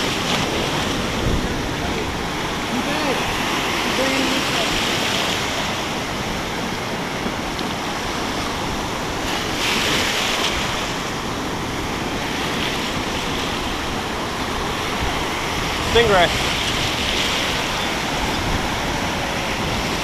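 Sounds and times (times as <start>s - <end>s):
ocean surf breaking: 0.0s - 20.0s
rush of foaming water: 0.0s - 20.0s.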